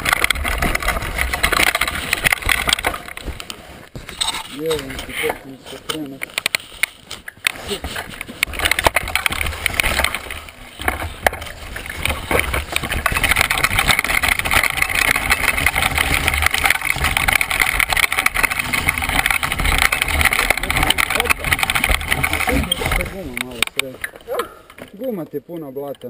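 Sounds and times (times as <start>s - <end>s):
bike frame clattering on stones: 0.0s - 26.0s
bike rolling over rocky trail: 0.0s - 26.0s.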